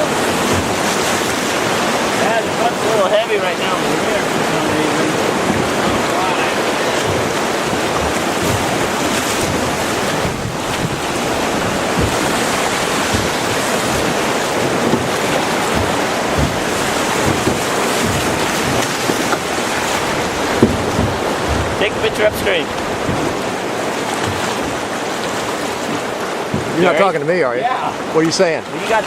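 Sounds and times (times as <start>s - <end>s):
wind buffeting microphone: 0.0s - 26.7s
river water rushing: 0.0s - 29.0s.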